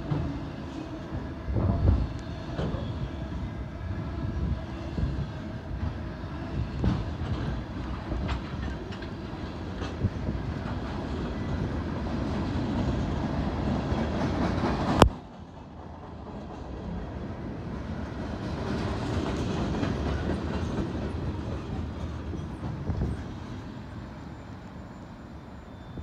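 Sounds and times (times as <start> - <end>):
freight train cars rolling: 0.0 - 26.0.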